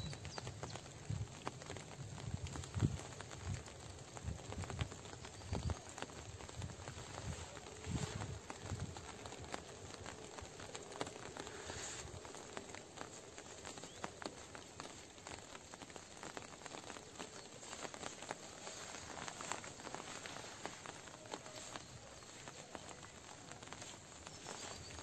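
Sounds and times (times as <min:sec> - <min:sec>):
faint scattered clicks and crackles: 0:00.0 - 0:25.0
low hiss: 0:00.0 - 0:25.0.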